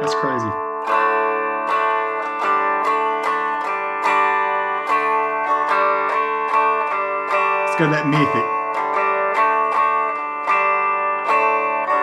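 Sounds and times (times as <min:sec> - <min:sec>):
electric guitar picked notes: 0:00.0 - 0:12.0.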